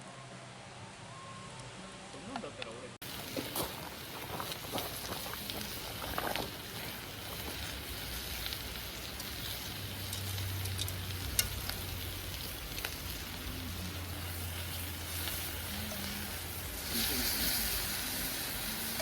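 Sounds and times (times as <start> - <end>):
campfire hissing: 3.0 - 19.0
fire crackles and pops: 3.0 - 19.0.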